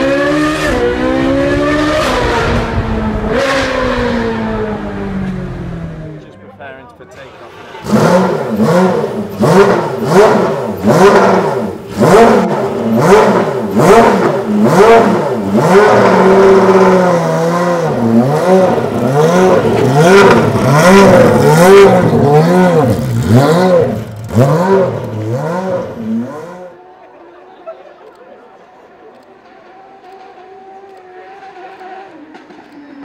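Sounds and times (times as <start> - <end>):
car engine revving: 0.0 - 6.3, 7.5 - 26.9, 29.2 - 33.0.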